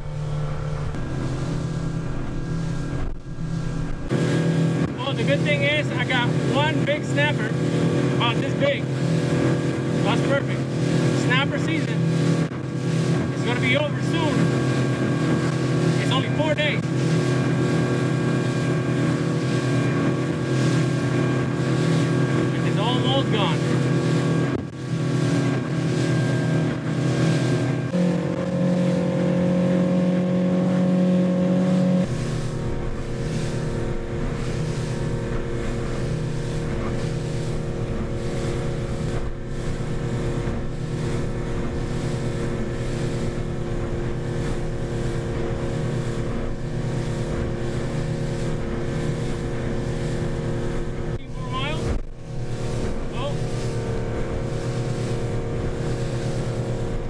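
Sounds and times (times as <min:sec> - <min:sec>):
boat engine running: 0:00.0 - 0:57.0
hull and water noise: 0:00.0 - 0:57.0.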